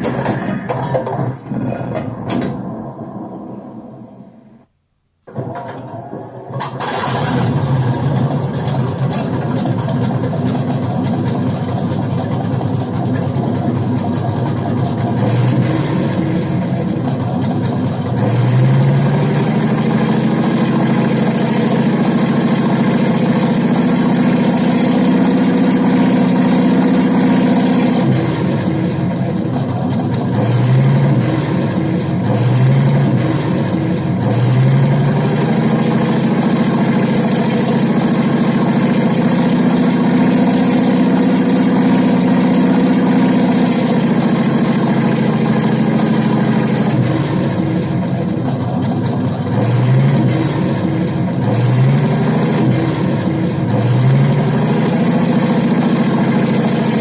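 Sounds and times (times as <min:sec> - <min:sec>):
tank engine idling and revving: 0:00.0 - 0:04.3, 0:06.6 - 0:57.0.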